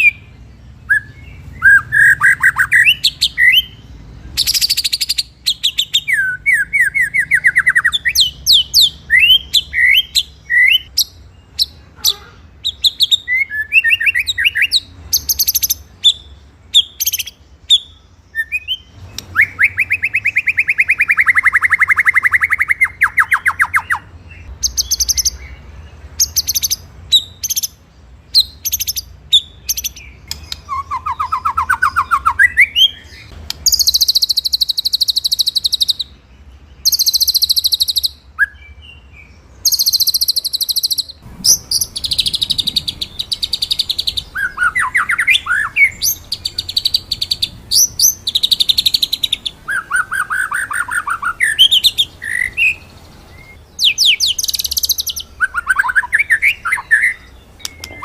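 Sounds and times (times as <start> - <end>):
songbird trilling: 0.0 - 58.0.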